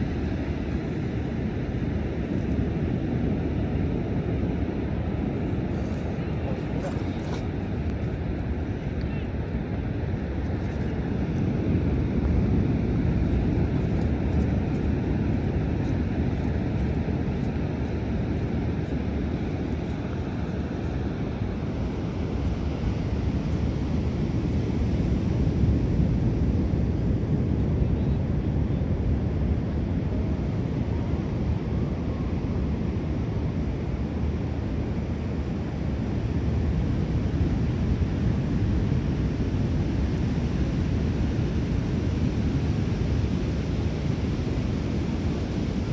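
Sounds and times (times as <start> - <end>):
wind on microphone: 0.0 - 45.9.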